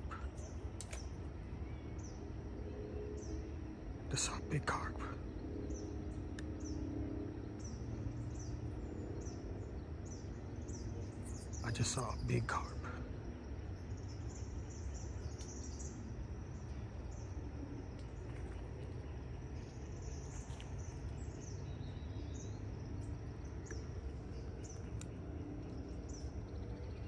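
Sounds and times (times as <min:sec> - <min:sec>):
low outdoor rumble: 0:00.0 - 0:27.0
small birds chirping: 0:00.0 - 0:27.0.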